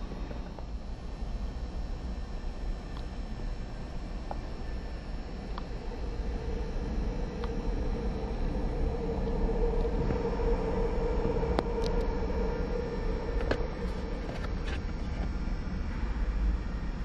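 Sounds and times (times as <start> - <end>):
low rumble with hum: 0.0 - 17.0.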